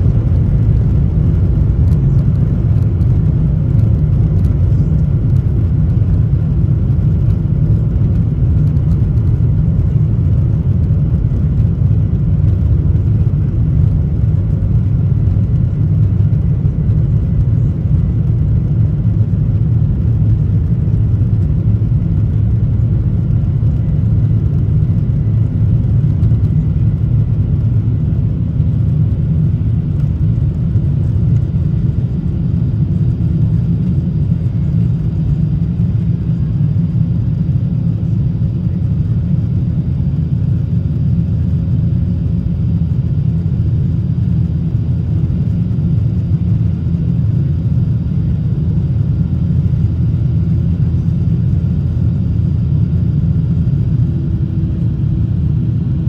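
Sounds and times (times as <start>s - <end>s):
faint engine whines: 0.0s - 56.0s
jet engine low rumble in cabin: 0.0s - 56.0s.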